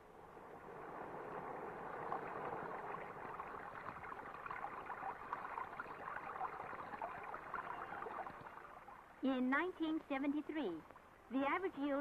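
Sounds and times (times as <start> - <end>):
water flowing and splashing: 0.0 - 12.0.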